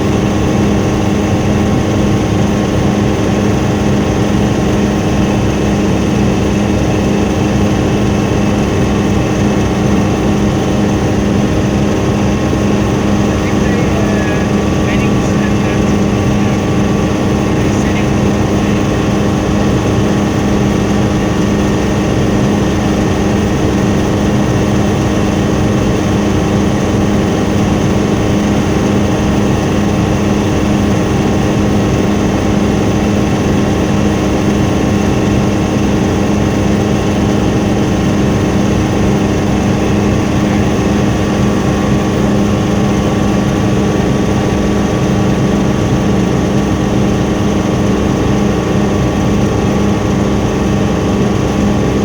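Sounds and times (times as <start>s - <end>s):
helicopter drone from inside cabin: 0.0s - 52.0s.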